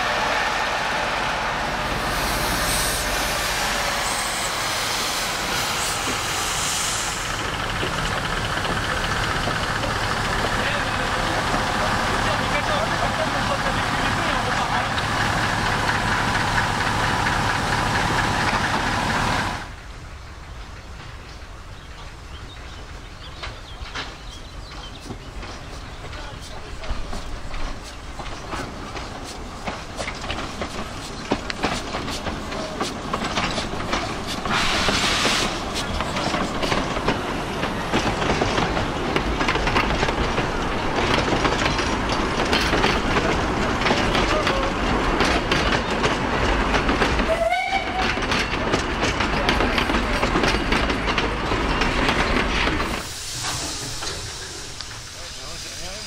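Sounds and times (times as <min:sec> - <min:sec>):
steam train wheels clicking: 0:00.0 - 0:19.8, 0:20.4 - 0:56.0
train rumble: 0:00.0 - 0:56.0.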